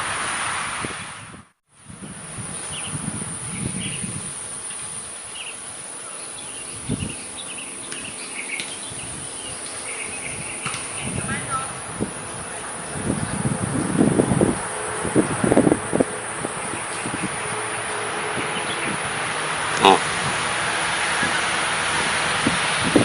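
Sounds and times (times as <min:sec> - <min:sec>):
low road traffic rumble: 0:00.0 - 0:23.0.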